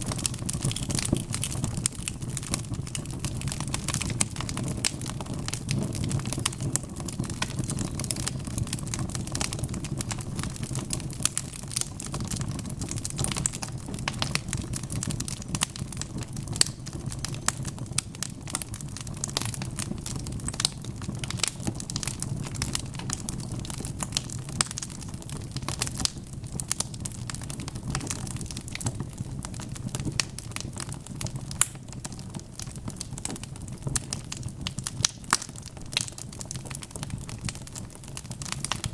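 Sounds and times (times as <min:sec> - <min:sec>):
log fire crackling: 0:00.0 - 0:38.9.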